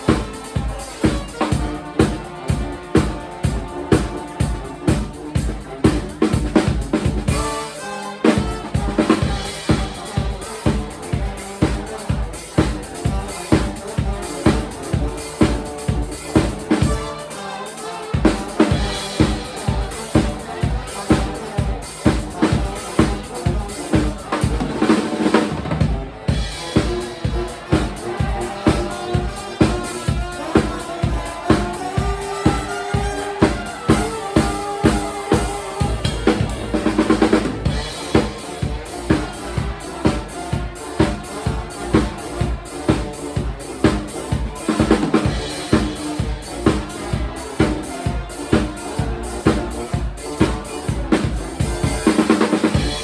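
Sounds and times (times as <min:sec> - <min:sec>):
drum kit beat: 0:00.0 - 0:53.0
live band playing: 0:00.0 - 0:53.0.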